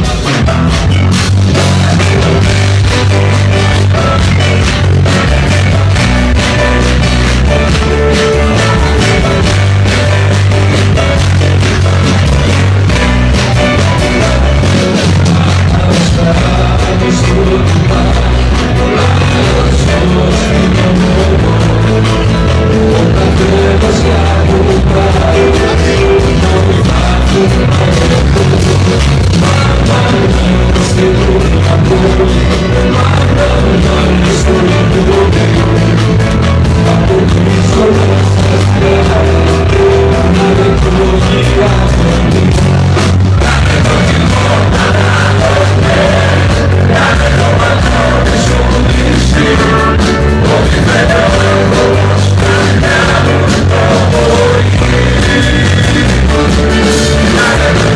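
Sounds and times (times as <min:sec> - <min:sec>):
live band playing: 0:00.0 - 0:57.9
person singing: 0:00.0 - 0:57.9.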